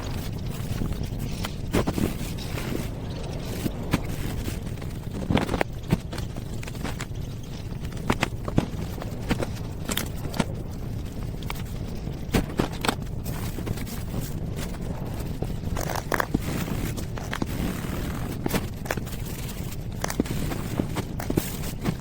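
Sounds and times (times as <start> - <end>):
clicks knocks and scrapes: 0.0 - 22.0
steady low rumble: 0.0 - 22.0.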